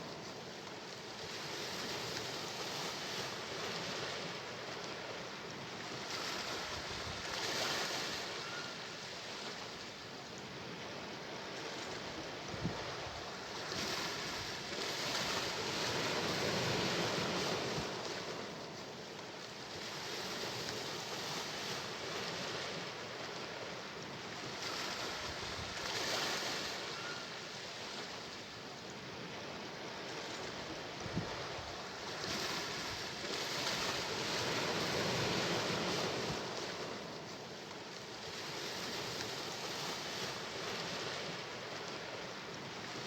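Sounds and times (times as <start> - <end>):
sea waves washing onto shore: 0.0 - 43.0.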